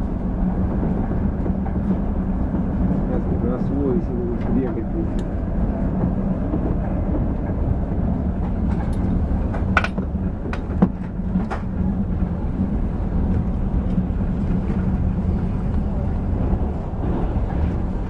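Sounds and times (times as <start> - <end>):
constant hum: 0.0 - 18.0
train wheels rumbling on rails: 0.0 - 18.0.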